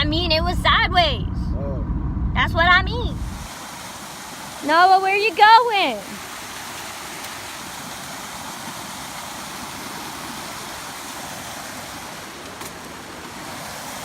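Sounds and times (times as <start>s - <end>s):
flowing water rushing: 2.4s - 14.0s.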